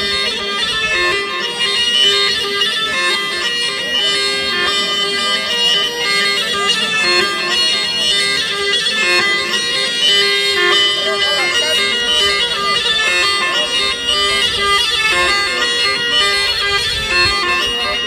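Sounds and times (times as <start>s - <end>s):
shrill reed instrument melody: 0.0s - 18.0s.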